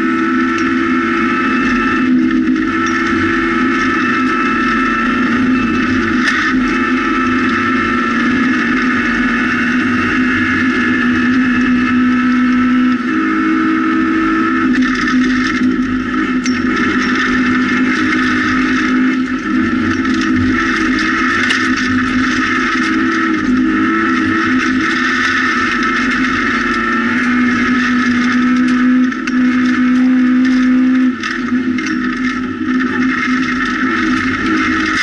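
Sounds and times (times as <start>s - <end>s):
gravel and tyre noise: 0.0s - 35.0s
rally car engine revving high: 0.0s - 35.0s.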